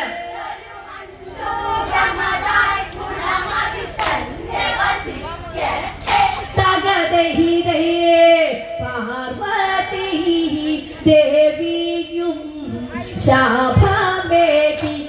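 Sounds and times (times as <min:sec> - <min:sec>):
women singing long held notes: 0:00.0 - 0:15.0.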